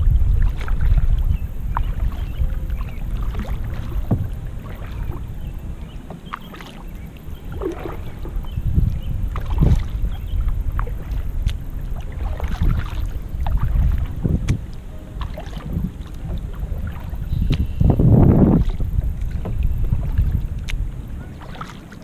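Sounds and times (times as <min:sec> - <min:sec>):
paddle splashing in water: 0:00.0 - 0:22.0
water dripping from paddle: 0:00.0 - 0:22.0
wind rumble on microphone: 0:00.0 - 0:22.0.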